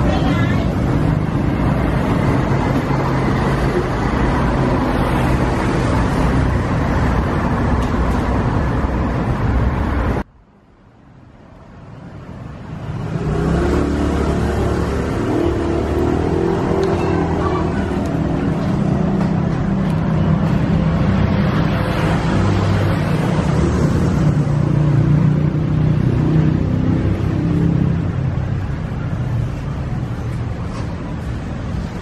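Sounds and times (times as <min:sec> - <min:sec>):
street traffic engine hum: 0:00.0 - 0:32.0.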